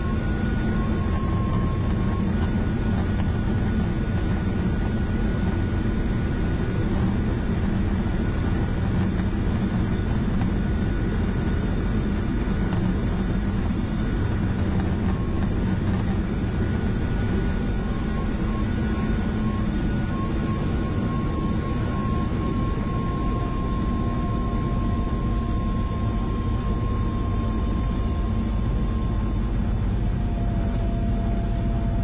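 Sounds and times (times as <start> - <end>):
light aircraft engine and propeller: 0.0 - 32.0.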